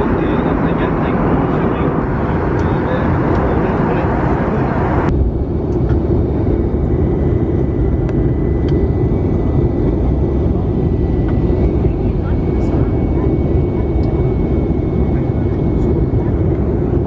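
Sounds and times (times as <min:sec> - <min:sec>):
jet engines and rushing air: 0:00.0 - 0:17.0.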